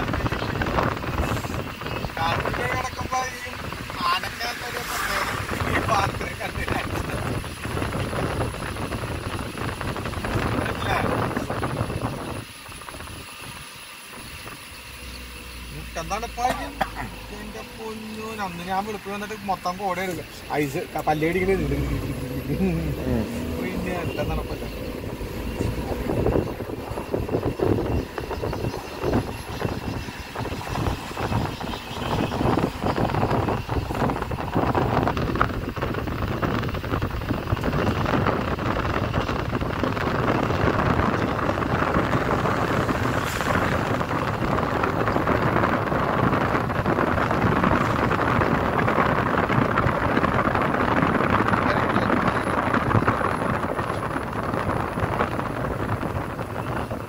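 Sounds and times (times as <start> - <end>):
vehicle engine tyre and wind rush: 0.0 - 57.0.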